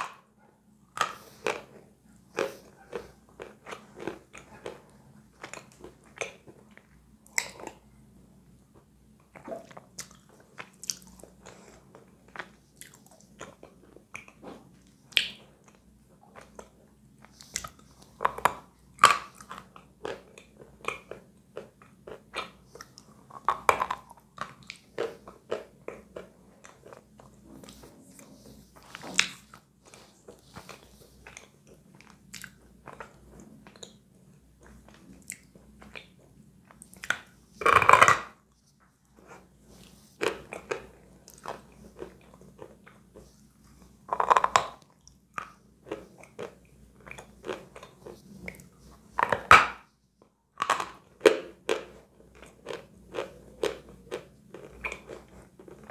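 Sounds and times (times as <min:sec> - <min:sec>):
chalk crunching and chewing: 0:00.9 - 0:07.8, 0:09.2 - 0:49.9, 0:50.6 - 0:55.9.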